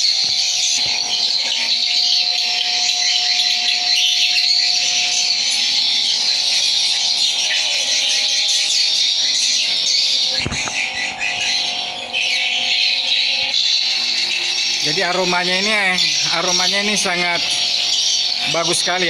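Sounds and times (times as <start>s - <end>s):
steady hum: 0.0s - 19.0s
swiftlets twittering: 0.0s - 19.0s.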